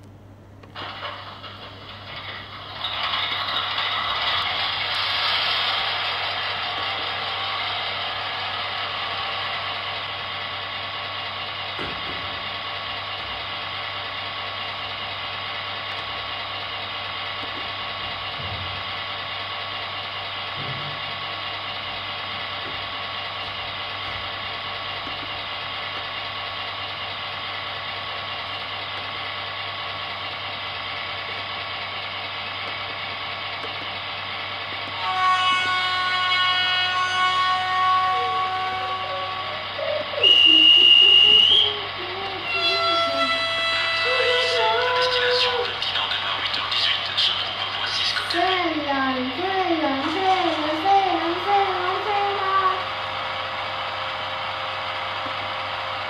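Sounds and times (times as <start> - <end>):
model locomotive mechanical drone: 0.7 - 56.0.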